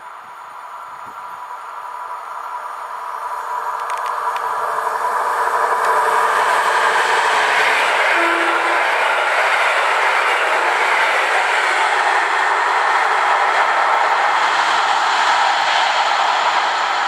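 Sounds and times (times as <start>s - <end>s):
faint train whine: 0.0s - 17.0s
train wheels rushing on rails: 0.0s - 17.0s.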